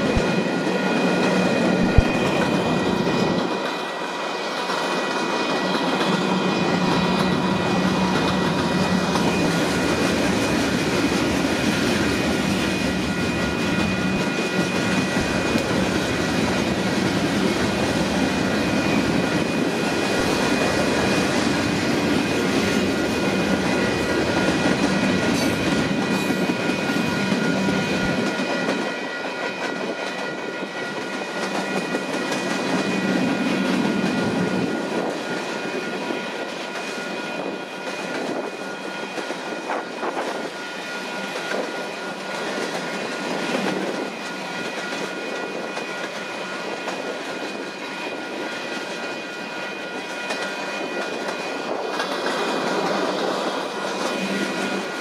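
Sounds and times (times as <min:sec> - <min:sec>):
freight wheels clacking on rails: 0:00.0 - 0:55.0.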